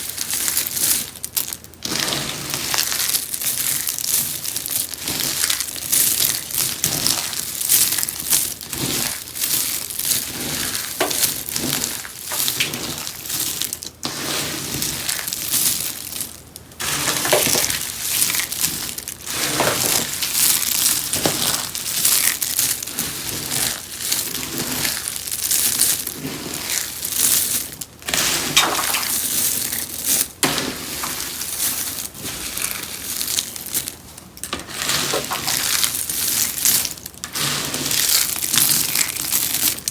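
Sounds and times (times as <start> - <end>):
soap crunching and crackling: 0.0 - 39.9.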